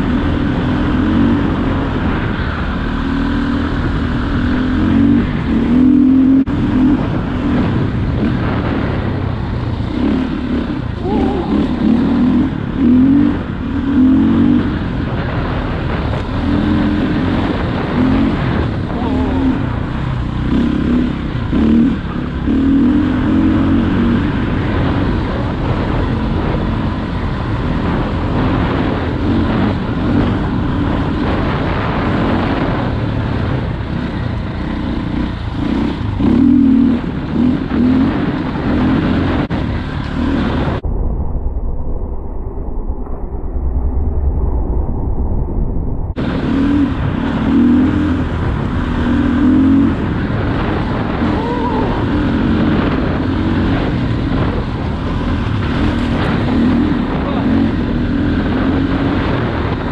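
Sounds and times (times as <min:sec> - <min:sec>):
motorcycle engine revving: 0:00.0 - 0:40.8, 0:46.1 - 0:59.9.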